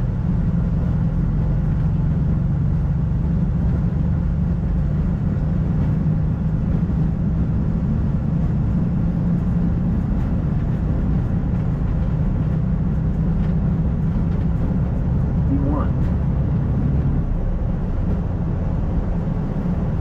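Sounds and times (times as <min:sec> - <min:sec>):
airflow and engine rumble: 0:00.0 - 0:20.0.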